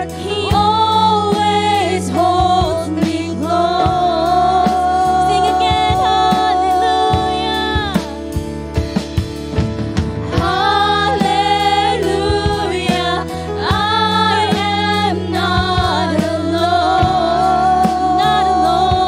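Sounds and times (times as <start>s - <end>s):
women singing: 0.0s - 8.3s, 10.4s - 19.0s
bass guitar: 0.0s - 19.0s
drum kit: 0.0s - 19.0s.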